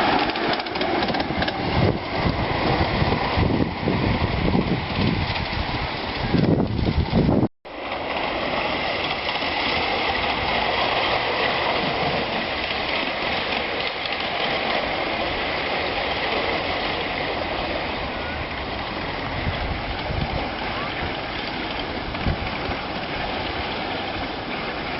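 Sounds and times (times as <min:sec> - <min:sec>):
wind buffeting microphone: 0:00.0 - 0:07.5, 0:09.0 - 0:24.9
miniature steam train running: 0:00.0 - 0:24.9.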